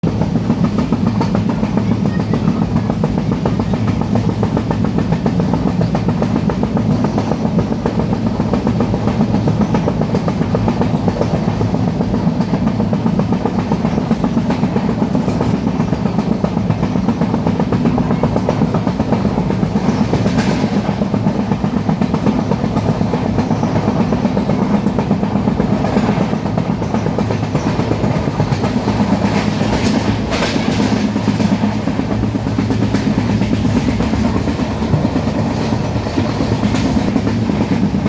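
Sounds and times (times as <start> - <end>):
train rumbling and rattling: 0.0 - 38.0.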